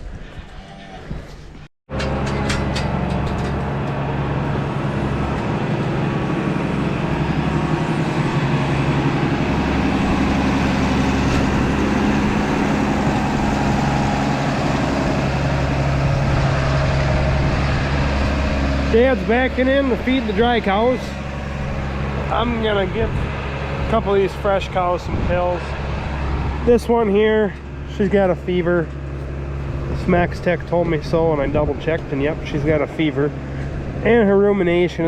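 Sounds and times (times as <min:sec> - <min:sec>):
farm vehicle engine low hum: 0:00.0 - 0:35.0.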